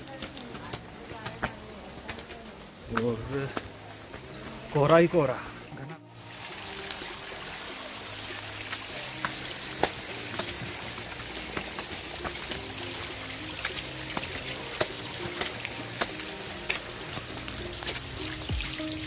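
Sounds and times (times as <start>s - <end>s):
raindrops tapping: 0.0s - 5.3s, 8.2s - 19.0s
music with slow low notes: 0.0s - 19.0s
rain running over stone steps: 0.0s - 19.0s.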